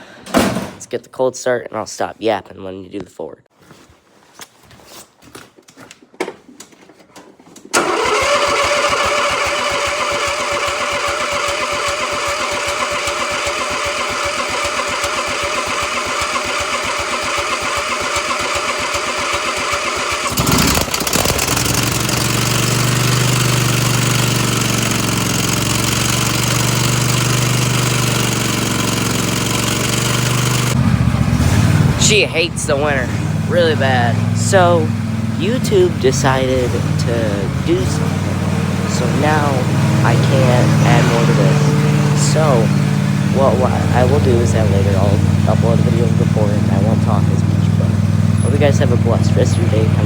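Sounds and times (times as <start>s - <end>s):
engine running: 7.8s - 50.0s.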